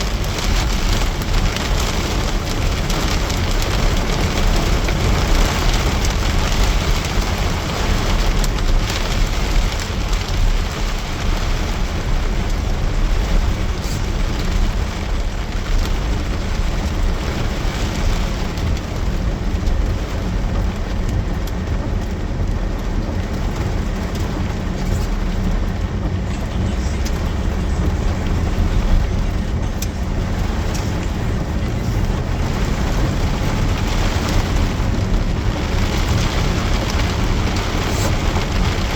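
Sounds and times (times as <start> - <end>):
heavy rain falling: 0.0 - 38.9
raindrop ticks: 0.0 - 38.9.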